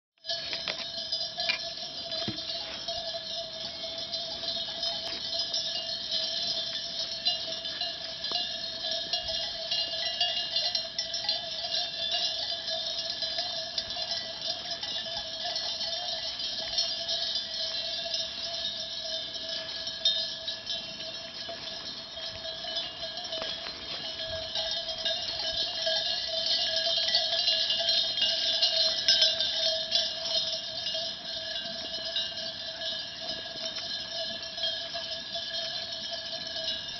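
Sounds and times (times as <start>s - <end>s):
sheep bells clanking: 0.2s - 36.9s.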